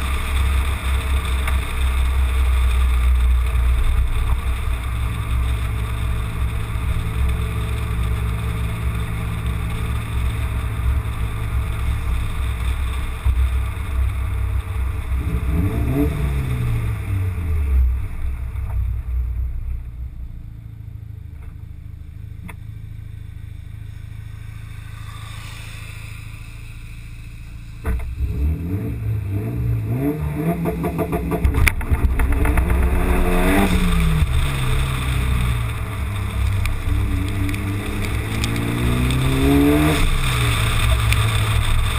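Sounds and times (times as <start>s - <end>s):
car engine revving: 0.0s - 41.9s
road and wind noise: 0.0s - 41.9s.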